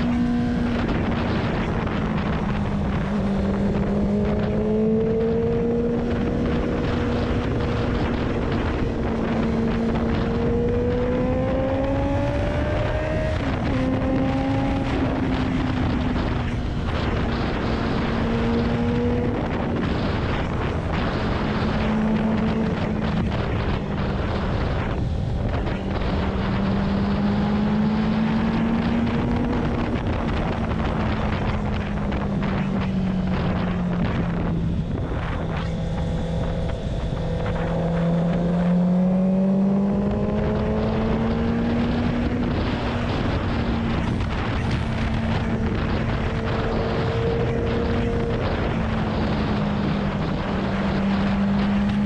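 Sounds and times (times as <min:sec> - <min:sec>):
motorcycle engine running: 0:00.0 - 0:52.0
wind noise on microphone: 0:00.0 - 0:52.0.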